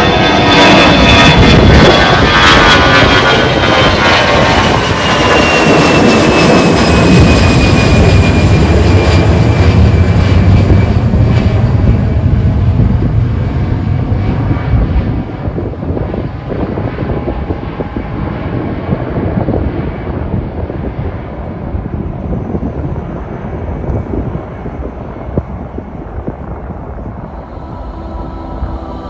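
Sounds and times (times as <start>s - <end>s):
jet airliner taking off: 0.0s - 29.0s.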